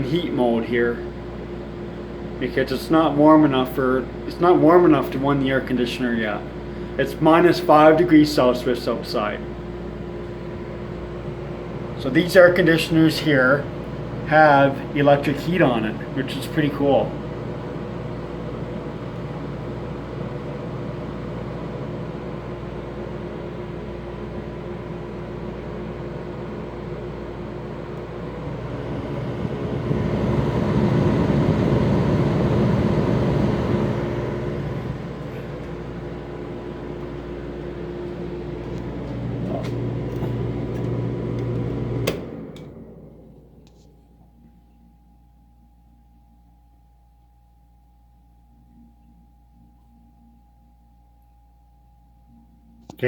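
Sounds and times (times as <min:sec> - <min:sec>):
air conditioner humming: 0:00.0 - 0:53.0.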